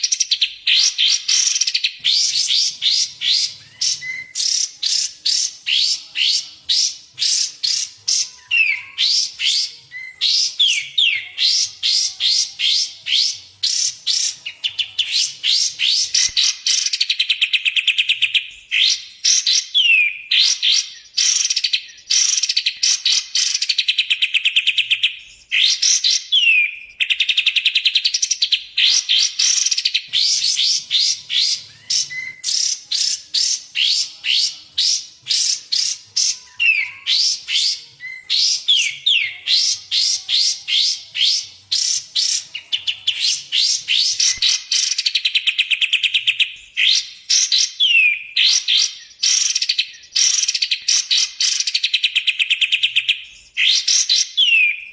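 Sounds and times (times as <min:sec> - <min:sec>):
songbird whistling and trilling: 0:00.0 - 0:54.9.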